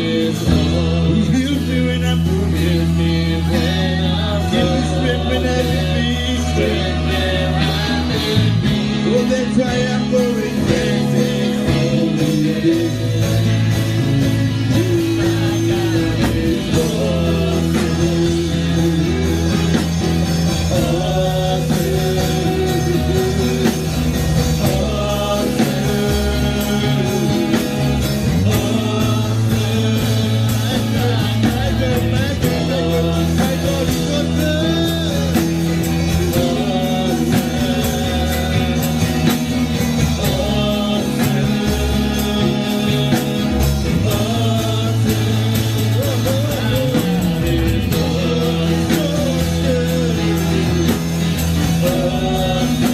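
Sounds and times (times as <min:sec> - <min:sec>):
gospel band with drums and bass: 0:00.0 - 0:52.9
person singing: 0:00.0 - 0:52.9.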